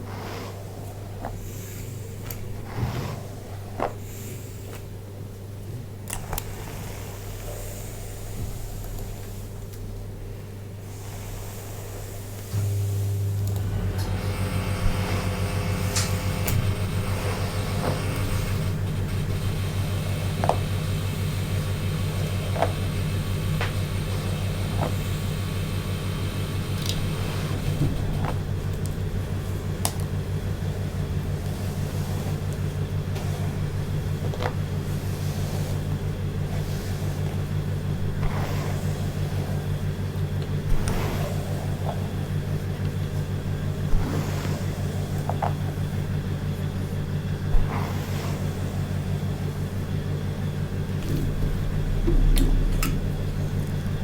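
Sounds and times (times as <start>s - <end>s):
low electric motor hum: 0.0s - 54.0s.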